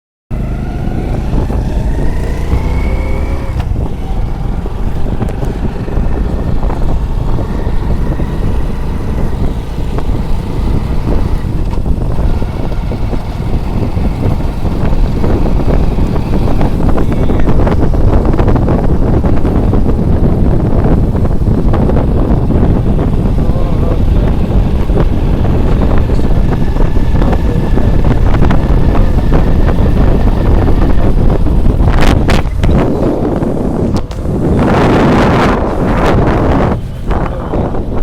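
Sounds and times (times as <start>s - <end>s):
motorcycle engine running: 0.3s - 38.0s
wind buffeting microphone: 0.3s - 38.0s.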